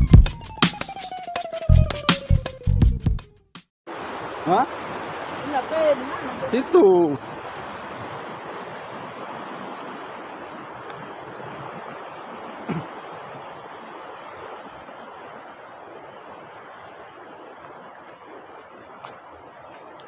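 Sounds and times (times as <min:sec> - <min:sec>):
river water rushing over rocks: 0:03.9 - 0:20.0.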